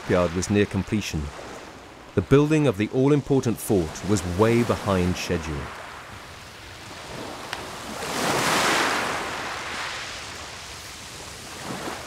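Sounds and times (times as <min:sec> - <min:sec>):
sea waves on shore: 0:00.0 - 0:12.0
wind: 0:00.0 - 0:12.0.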